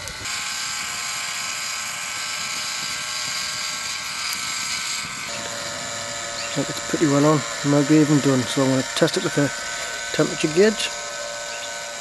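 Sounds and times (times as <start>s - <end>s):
rotisserie motor whine: 0.0s - 12.0s.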